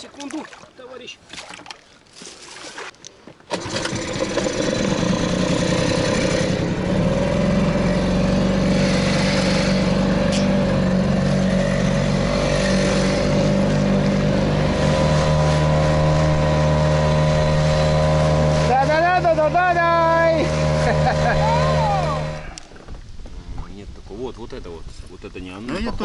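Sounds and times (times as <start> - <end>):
outboard motor running: 1.7 - 23.0.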